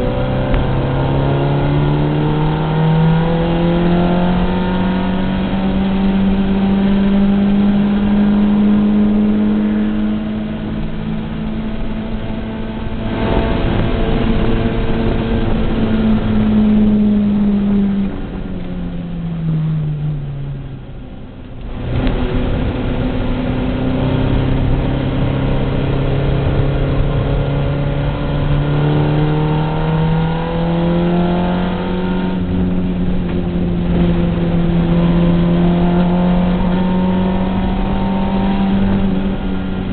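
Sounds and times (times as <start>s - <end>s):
race car engine revving: 0.0s - 39.9s
road and wind noise: 0.0s - 39.9s.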